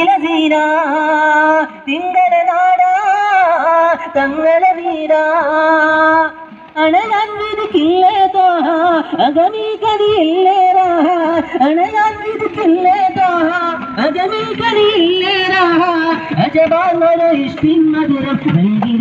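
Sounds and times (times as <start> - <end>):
high voice singing devotional song: 0.0 - 19.0.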